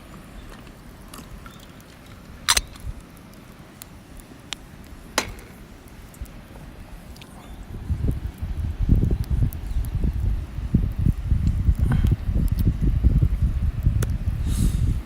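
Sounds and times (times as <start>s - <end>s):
campfire crackling: 0.0s - 15.0s
sharp fire snaps: 0.1s - 15.0s.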